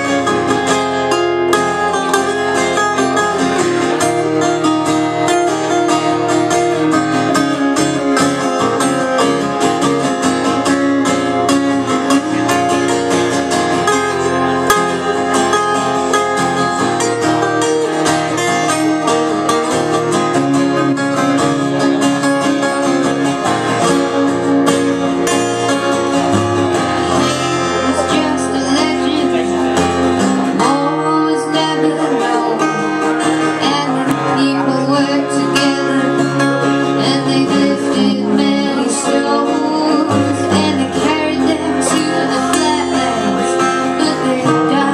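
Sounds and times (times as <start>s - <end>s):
string band music: 0.0s - 44.9s
strummed acoustic guitar: 0.0s - 44.9s.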